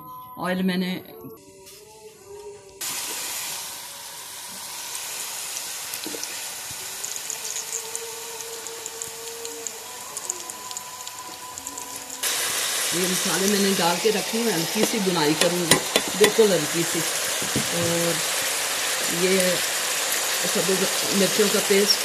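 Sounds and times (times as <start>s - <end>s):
vegetables sizzling in hot oil: 2.8s - 22.0s.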